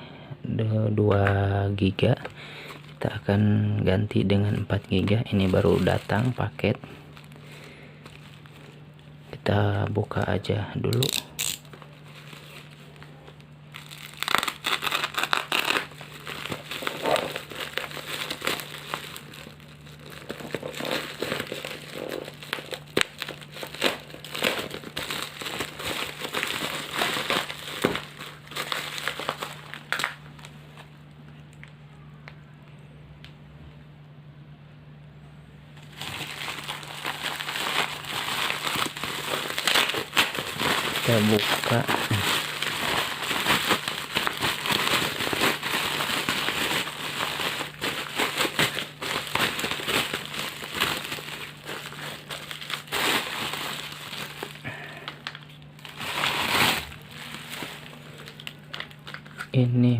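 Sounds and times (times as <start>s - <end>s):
faint low hum: 0.0s - 59.9s
packaging crinkling and rustling: 4.0s - 9.1s, 10.9s - 30.9s, 35.8s - 59.7s.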